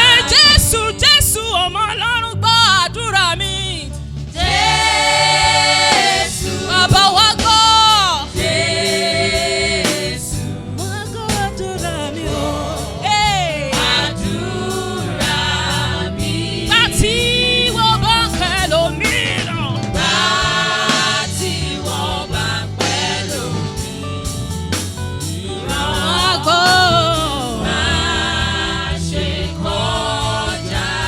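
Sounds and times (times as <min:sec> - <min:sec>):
gospel singing with accompaniment: 0:00.0 - 0:31.0.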